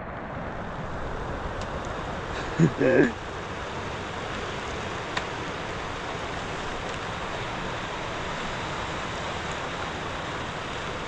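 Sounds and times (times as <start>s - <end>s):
rain falling: 0.0s - 11.0s
river water rushing: 0.0s - 11.0s.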